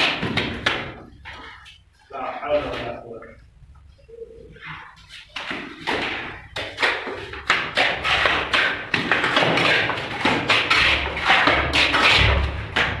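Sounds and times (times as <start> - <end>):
slaps and scrapes of plastering: 0.0 - 2.0, 4.5 - 13.0.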